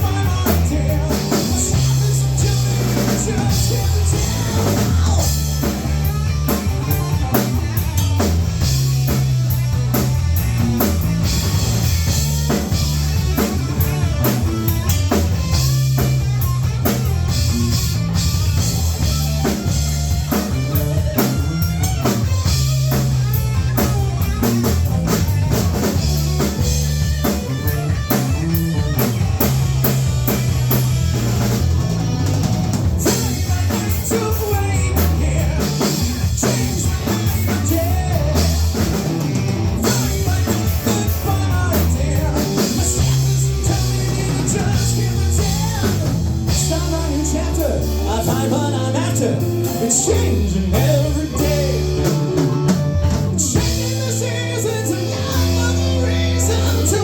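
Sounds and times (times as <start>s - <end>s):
drum kit beating: 0.0s - 57.0s
rock band playing: 0.0s - 57.0s.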